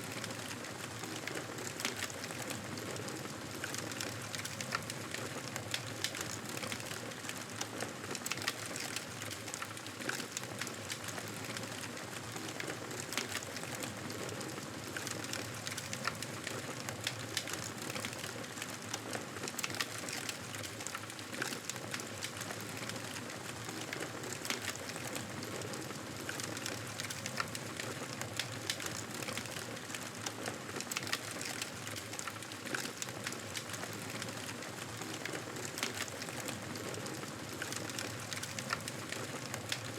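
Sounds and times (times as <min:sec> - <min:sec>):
wood fire crackling and popping: 0:00.1 - 0:39.9.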